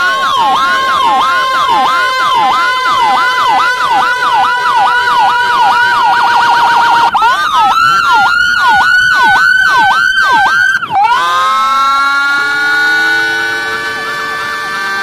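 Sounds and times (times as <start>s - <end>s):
dual-tone siren: 0.0s - 15.0s.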